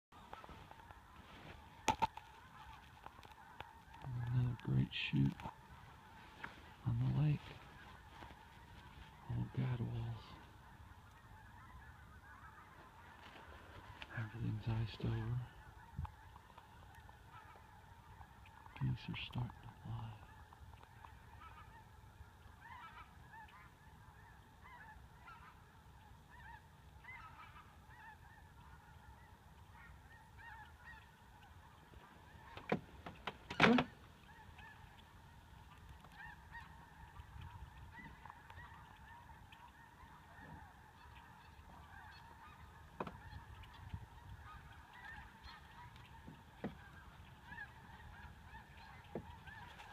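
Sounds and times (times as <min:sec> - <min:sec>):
geese honking: 0:00.1 - 0:49.9.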